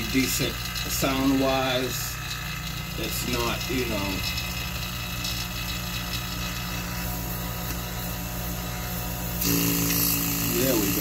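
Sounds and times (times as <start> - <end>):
vacuum pump running: 0.0 - 11.0.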